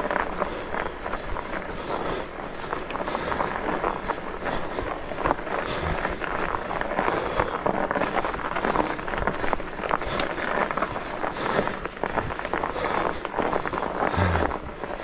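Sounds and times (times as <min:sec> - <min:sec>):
bike tyres crunching over snow: 0:00.0 - 0:15.0.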